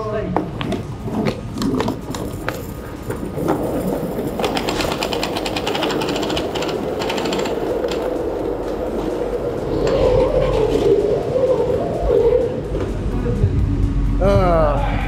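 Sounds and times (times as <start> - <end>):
caster wheels rattling on concrete: 0.4 - 12.9.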